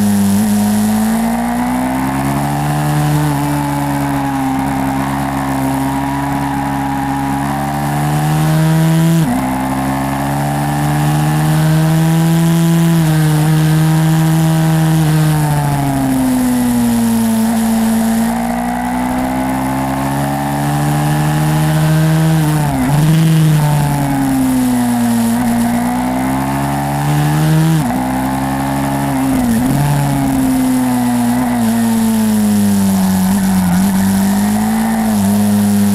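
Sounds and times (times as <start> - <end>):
small motorbike engine revving: 0.0 - 35.9.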